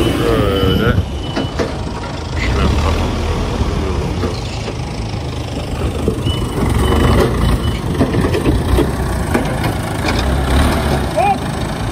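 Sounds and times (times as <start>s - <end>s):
heavy diesel engine rumbling: 0.0s - 11.9s.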